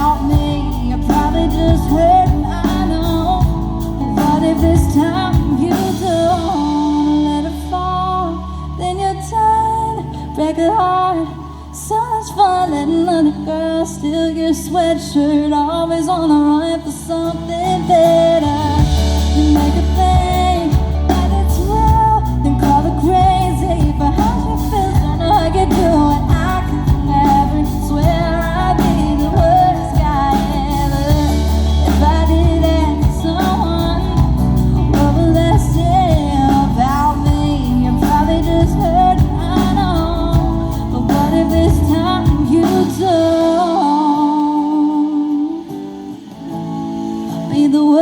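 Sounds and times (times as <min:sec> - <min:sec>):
country-pop band playing: 0:00.0 - 0:48.0
wavering lead vocal: 0:00.0 - 0:48.0.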